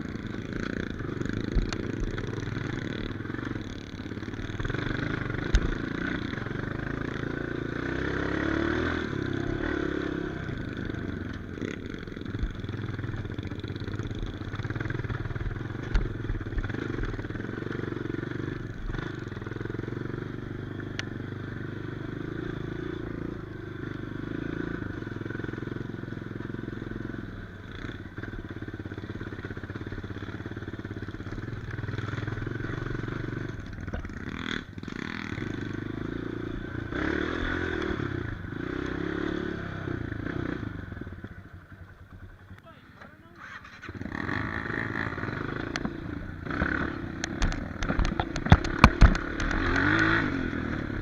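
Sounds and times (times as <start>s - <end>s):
dirt bike engine revving: 0.0s - 20.5s, 21.5s - 41.1s, 43.2s - 51.0s.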